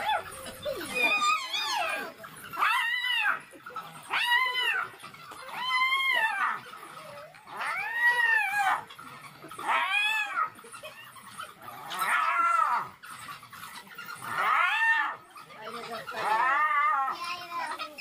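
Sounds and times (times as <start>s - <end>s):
animal wailing squeals: 0.0s - 18.0s.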